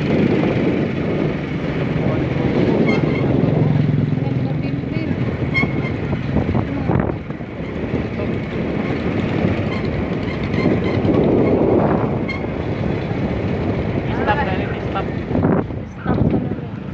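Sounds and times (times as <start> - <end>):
vehicle engine and road noise: 0.0 - 16.9
wind buffeting microphone: 0.0 - 16.9.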